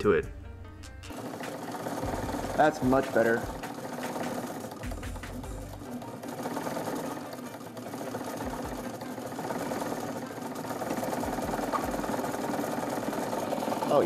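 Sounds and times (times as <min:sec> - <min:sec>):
sewing machine motor whirring: 0:01.1 - 0:14.0.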